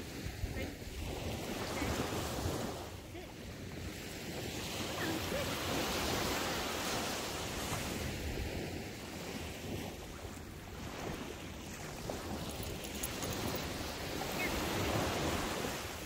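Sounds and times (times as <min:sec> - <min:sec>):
waves breaking on a beach: 0:00.0 - 0:16.0
wind on the microphone: 0:00.0 - 0:16.0.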